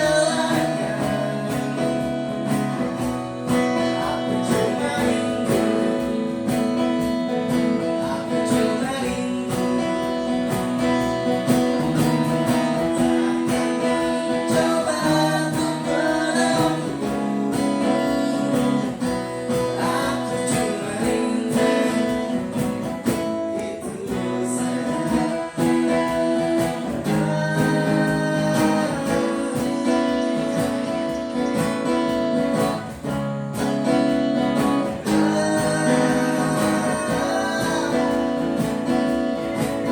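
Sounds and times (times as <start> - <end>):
acoustic guitar strumming: 0.0 - 39.9
person singing: 0.0 - 39.9.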